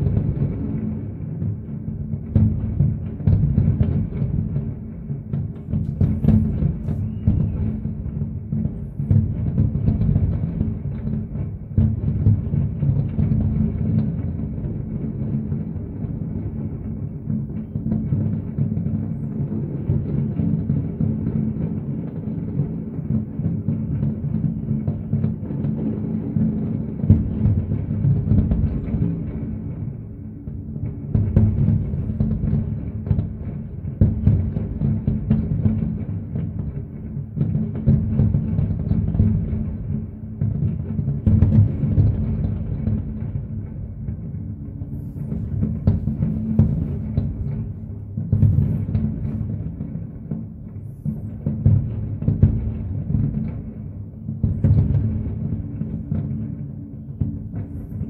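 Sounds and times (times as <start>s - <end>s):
loud sharp firework bang: 0.0s - 30.0s, 30.8s - 58.0s
distant fireworks barrage: 0.0s - 58.0s.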